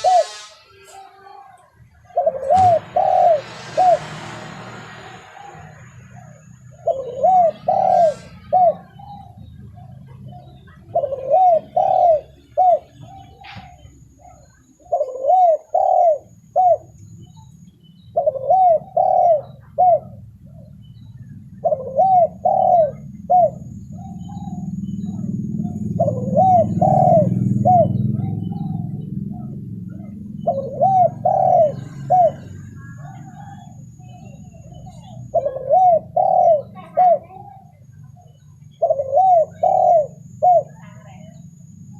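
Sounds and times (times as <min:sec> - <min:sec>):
dove cooing: 0:00.0 - 0:00.6, 0:02.0 - 0:04.2, 0:05.0 - 0:41.7
low background rumble: 0:05.2 - 0:41.9.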